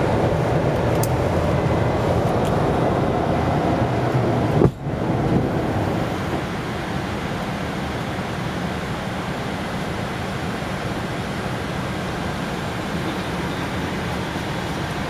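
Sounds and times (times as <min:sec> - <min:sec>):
jet cockpit engine rumble: 0:00.0 - 0:15.0.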